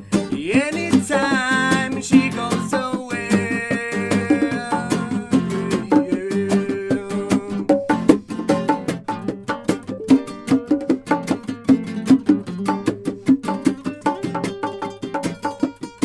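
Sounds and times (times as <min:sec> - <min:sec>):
drum beat: 0:00.0 - 0:16.0
guitar: 0:00.0 - 0:16.0.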